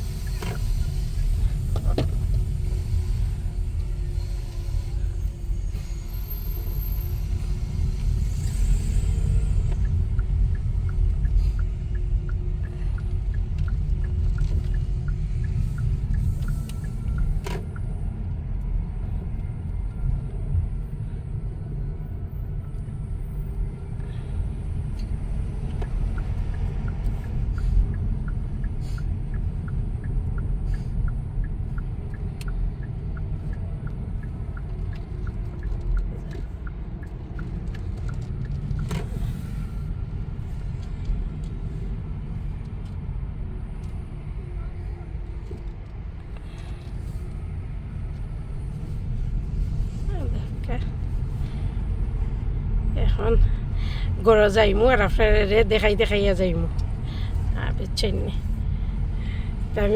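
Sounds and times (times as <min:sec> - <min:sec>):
car cabin road and engine noise: 0:00.0 - 0:59.9.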